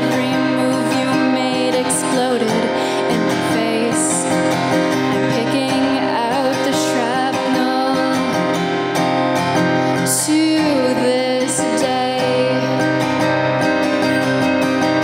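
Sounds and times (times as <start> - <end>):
woman singing: 0.0 - 8.8, 9.8 - 13.4
acoustic guitar strumming: 0.0 - 15.0.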